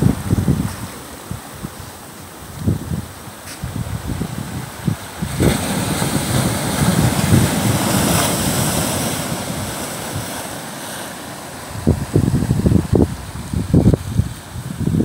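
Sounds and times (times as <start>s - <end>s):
wind buffeting microphone: 0.0s - 10.7s, 11.6s - 15.0s
wave breaking on sand and rocks: 0.0s - 15.0s.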